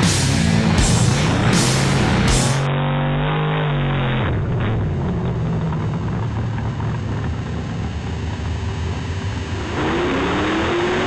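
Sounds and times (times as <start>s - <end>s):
race car engine rumble: 0.0s - 11.0s.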